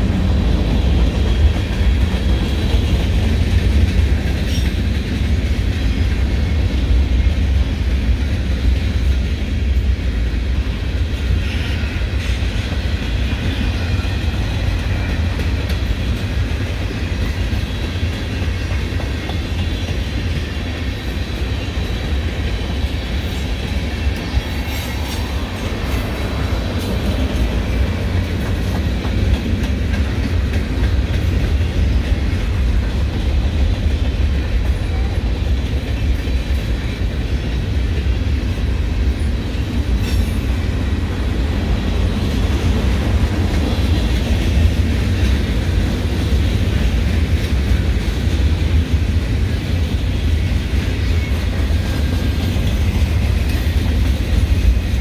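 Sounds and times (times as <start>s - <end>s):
freight train wheels rumbling: 0.0s - 55.0s
train wheels clickety-clack: 0.0s - 55.0s.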